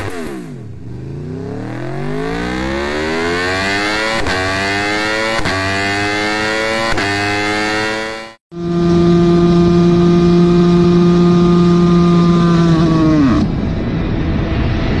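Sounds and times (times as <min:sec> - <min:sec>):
two-stroke motorcycle engine revving: 0:00.0 - 0:13.5.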